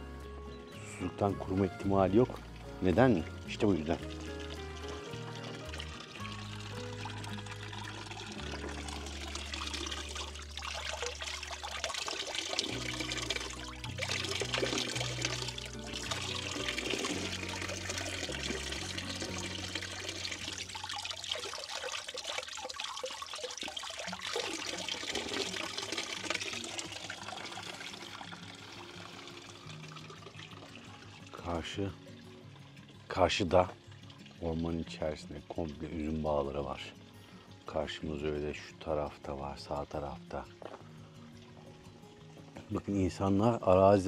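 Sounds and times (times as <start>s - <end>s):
low background music: 0.0s - 21.9s, 23.9s - 44.0s
water running and trickling: 1.6s - 44.0s.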